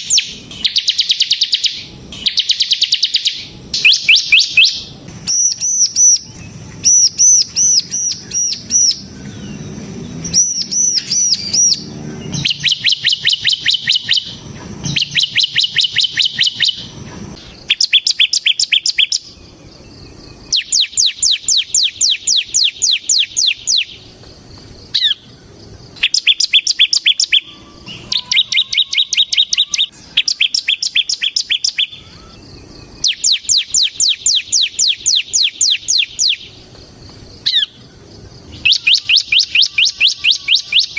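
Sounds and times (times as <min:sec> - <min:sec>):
looping whistled notes: 0:00.0 - 0:19.4, 0:20.4 - 0:24.1, 0:26.0 - 0:36.6, 0:38.5 - 0:40.9
bird singing rapid high notes: 0:00.0 - 0:24.2, 0:26.0 - 0:36.6, 0:37.4 - 0:37.9, 0:38.5 - 0:40.9.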